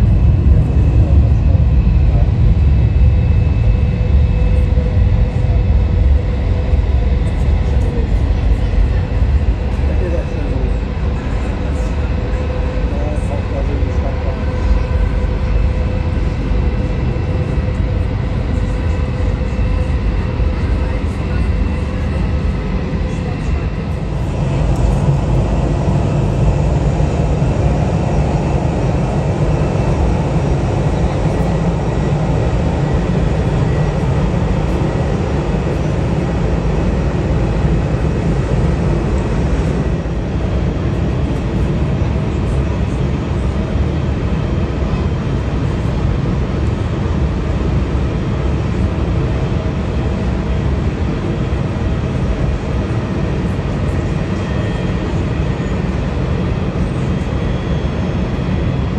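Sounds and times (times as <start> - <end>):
faint engine whine: 0.0 - 58.9
jet engines rumbling: 0.0 - 58.9.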